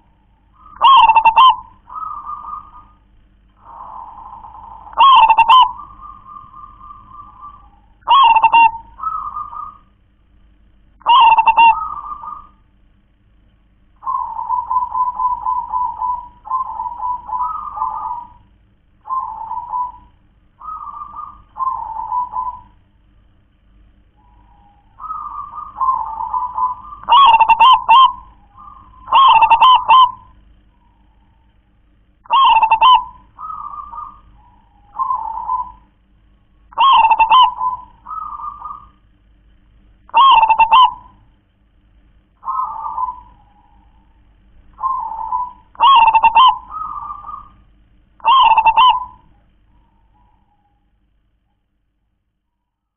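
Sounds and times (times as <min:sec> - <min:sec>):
dove cooing: 0:00.0 - 0:10.0, 0:11.0 - 0:12.6, 0:14.0 - 0:22.9, 0:24.1 - 0:31.6, 0:32.2 - 0:36.1, 0:36.7 - 0:39.2, 0:40.1 - 0:41.3, 0:42.4 - 0:51.0.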